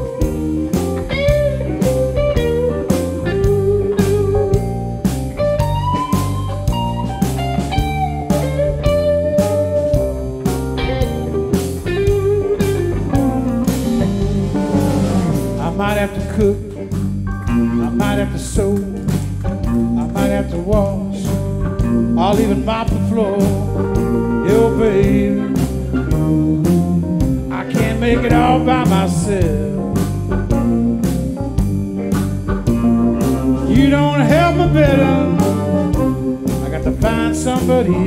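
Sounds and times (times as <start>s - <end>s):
bass: 0.0s - 38.0s
bending lead guitar line: 0.0s - 38.0s
drums: 0.0s - 38.0s
electric guitars: 0.0s - 38.0s
keyboard: 0.0s - 38.0s.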